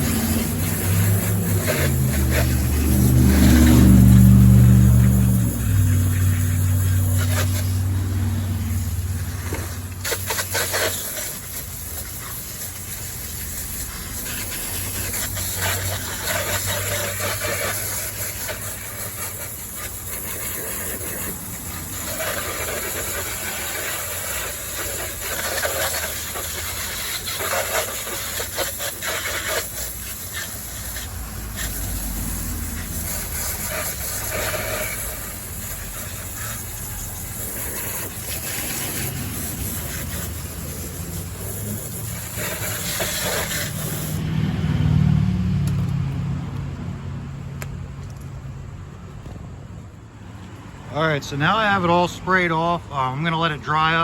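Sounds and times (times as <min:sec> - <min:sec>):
water spray hissing: 0:00.0 - 0:44.3.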